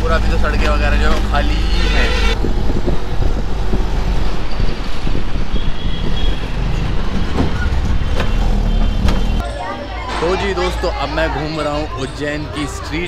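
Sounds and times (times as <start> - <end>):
rickshaw rumbling on road: 0.0 - 13.0.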